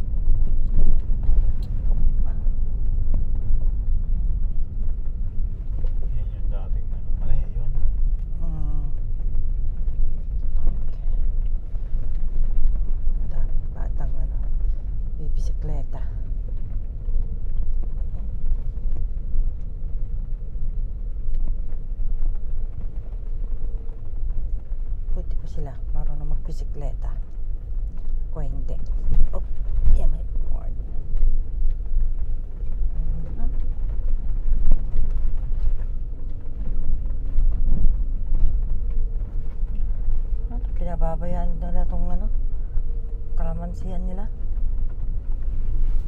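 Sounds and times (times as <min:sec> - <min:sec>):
car driving on dirt road: 0:00.0 - 0:46.0
tyres and suspension rumble: 0:00.0 - 0:46.0.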